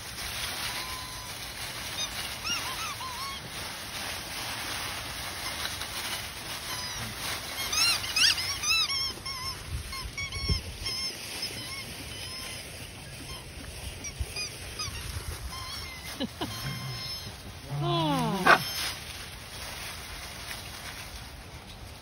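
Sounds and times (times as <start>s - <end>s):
dry leaves rustling: 0.0s - 22.0s
puppies yipping: 0.4s - 19.2s
footsteps on grass: 1.4s - 22.0s.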